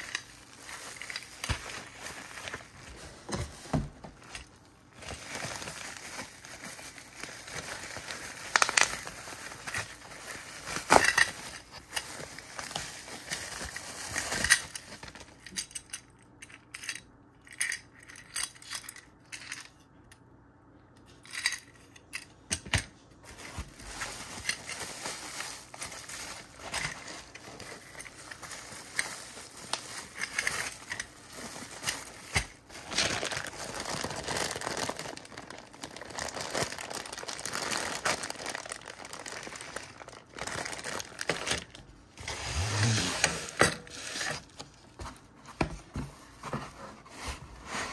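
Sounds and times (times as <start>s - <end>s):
bubble wrap and plastic crinkling: 0.0s - 15.8s, 23.1s - 47.9s.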